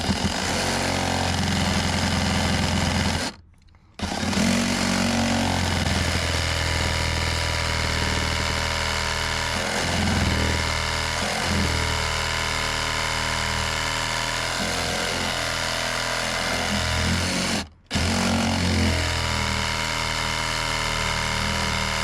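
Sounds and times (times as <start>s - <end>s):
reciprocating saw cutting wood: 0.0s - 3.4s, 4.0s - 22.0s.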